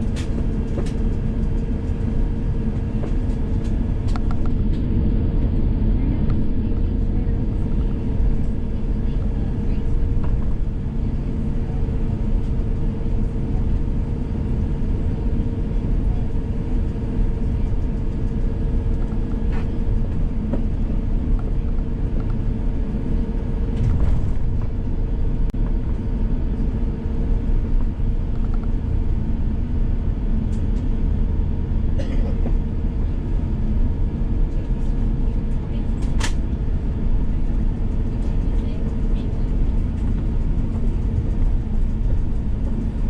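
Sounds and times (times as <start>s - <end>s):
aircraft cabin engine hum: 0.0s - 43.0s.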